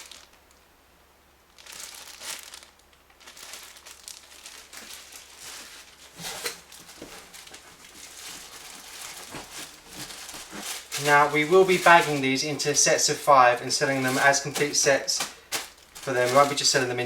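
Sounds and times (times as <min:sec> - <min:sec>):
plastic packaging crinkling: 0:00.0 - 0:00.7, 0:01.3 - 0:17.0.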